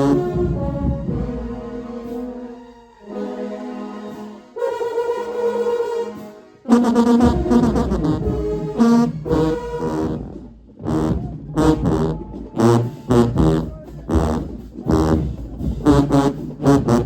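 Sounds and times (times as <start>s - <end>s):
brass section playing short notes: 0.0s - 17.0s.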